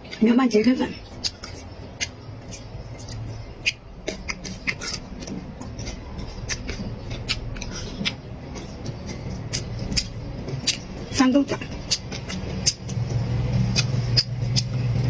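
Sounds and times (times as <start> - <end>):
chewing and lip smacks: 0.0 - 15.0
low background hum: 0.0 - 15.0.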